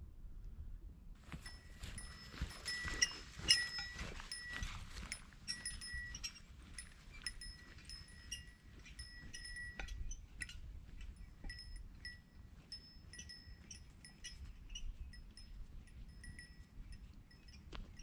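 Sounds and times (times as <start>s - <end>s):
small metal bell tinkling: 1.3s - 18.0s.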